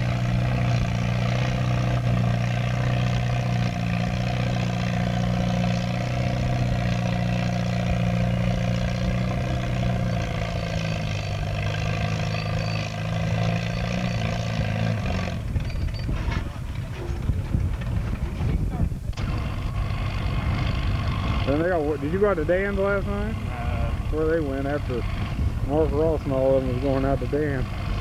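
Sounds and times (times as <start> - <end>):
tractor engine running hard: 0.0 - 28.0.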